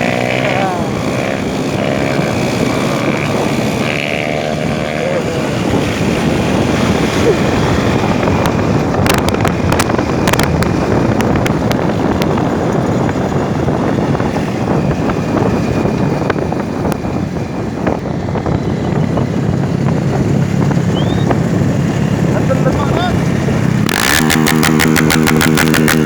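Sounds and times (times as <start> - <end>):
motorcycle engine running: 0.0 - 26.0
wind noise on microphone: 0.0 - 26.0.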